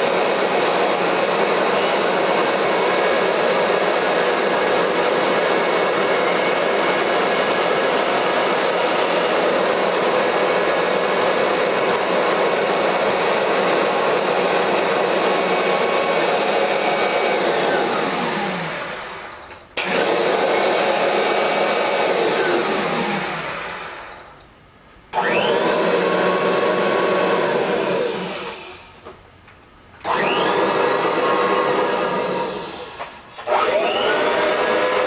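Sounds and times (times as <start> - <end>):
vacuum cleaner motors whining: 0.0 - 24.4, 25.1 - 29.2, 30.0 - 35.0.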